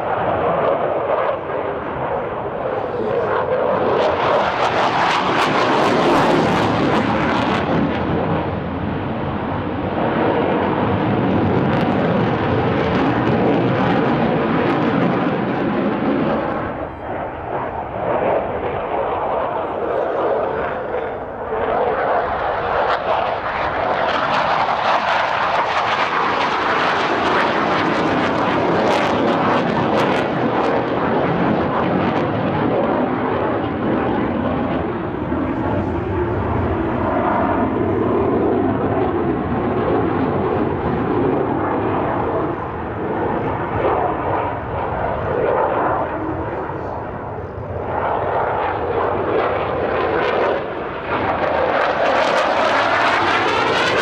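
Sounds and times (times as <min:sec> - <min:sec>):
fighter jet engine roaring: 0:00.0 - 0:54.0.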